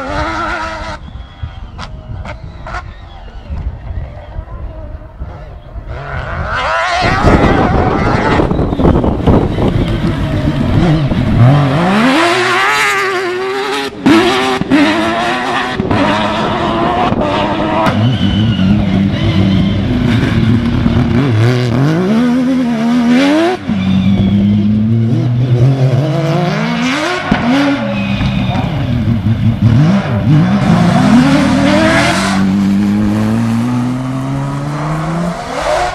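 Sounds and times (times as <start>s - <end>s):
rally car engine revving: 0.0s - 1.1s, 5.0s - 35.9s.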